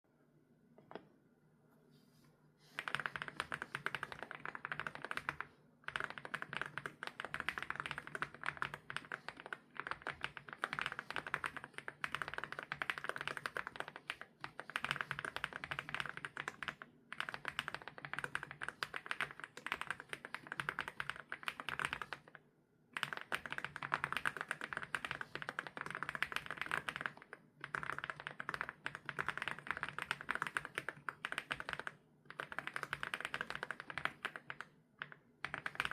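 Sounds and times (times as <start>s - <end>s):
fast typing on mechanical keyboard: 2.8s - 22.4s, 23.0s - 35.9s.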